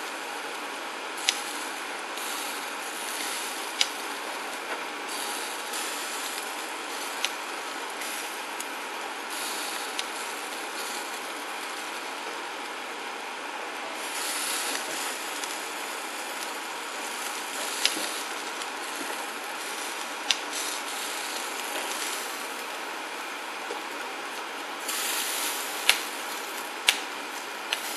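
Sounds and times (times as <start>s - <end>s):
meat sizzling on a grill: 0.0s - 27.9s.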